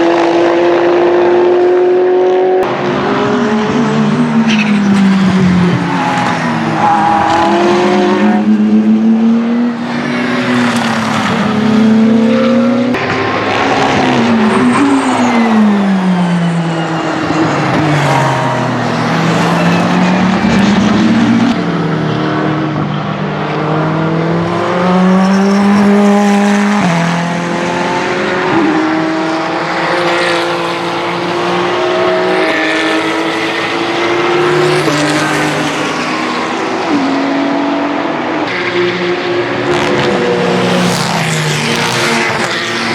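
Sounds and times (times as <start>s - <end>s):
race car engines revving: 0.0s - 42.9s.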